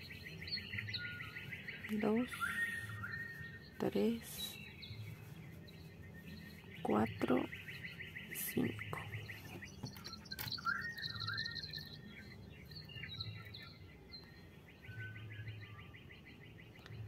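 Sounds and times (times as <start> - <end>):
fast bird trill: 0.0 - 13.8
birds chirping: 0.0 - 17.0.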